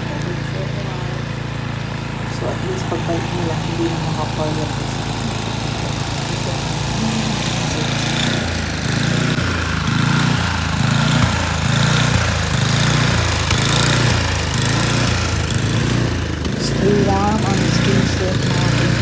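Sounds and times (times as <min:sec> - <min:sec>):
snowblower engine running: 0:00.0 - 0:19.0.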